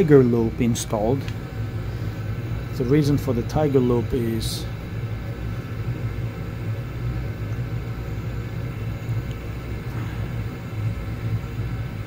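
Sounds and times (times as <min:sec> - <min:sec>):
boiler burner rumble: 0:00.0 - 0:12.0
motor hum: 0:00.0 - 0:12.0.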